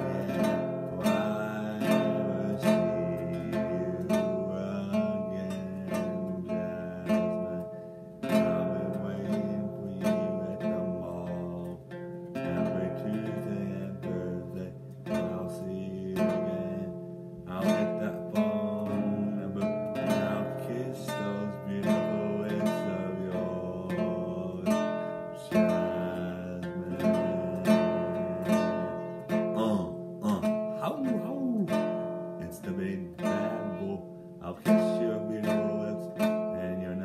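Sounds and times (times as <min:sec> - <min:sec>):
acoustic guitar strumming chords: 0:00.0 - 0:37.0.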